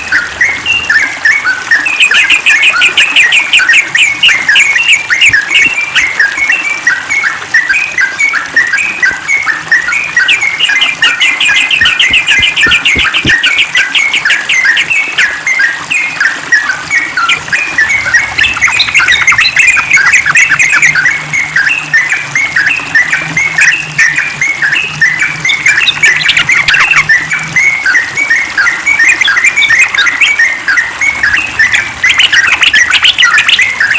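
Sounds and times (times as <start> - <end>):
bird singing chattering phrases: 1.7 - 6.0, 9.8 - 15.7, 16.5 - 33.9.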